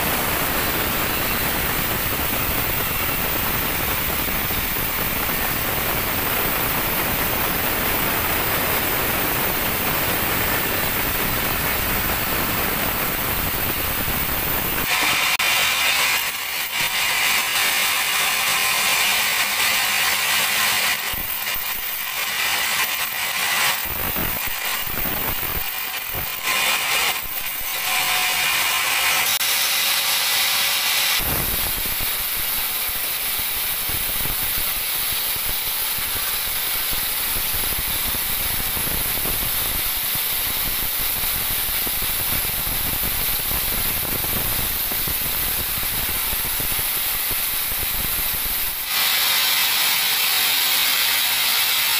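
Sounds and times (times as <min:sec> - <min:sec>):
band saw cutting log: 0:00.0 - 0:51.9.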